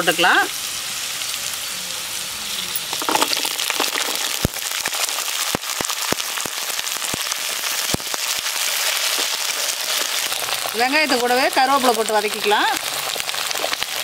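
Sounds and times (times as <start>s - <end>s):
oil popping and crackling: 0.0s - 14.0s
shallots sizzling in hot oil: 0.0s - 14.0s.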